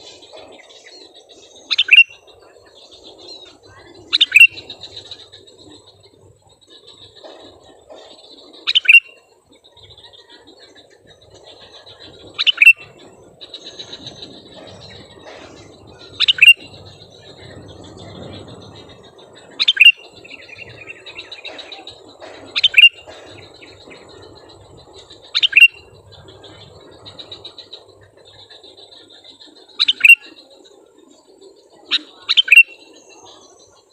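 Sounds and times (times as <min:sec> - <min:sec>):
bulbul double-noted calls: 0:00.0 - 0:30.6, 0:31.8 - 0:33.6
birds twittering: 0:00.0 - 0:33.9.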